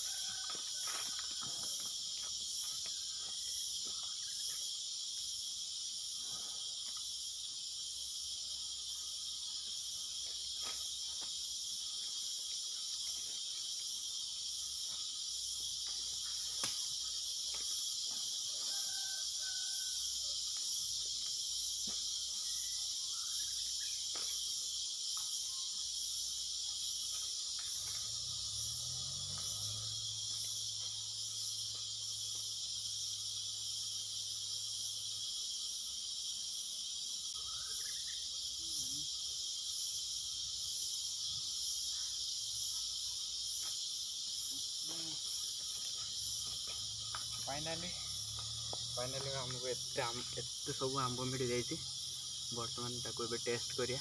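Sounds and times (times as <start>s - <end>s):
high-pitched insects buzzing: 0.0s - 54.0s.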